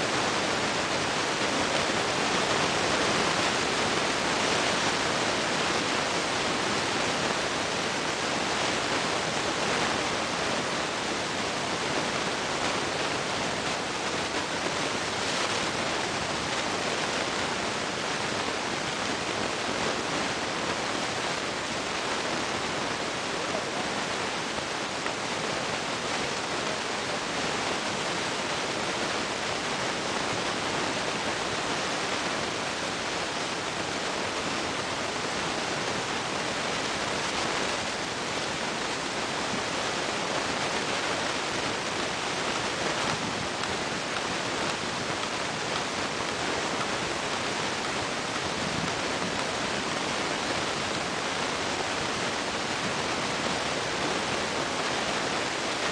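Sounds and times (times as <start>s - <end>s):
steady hiss: 0.0s - 55.9s.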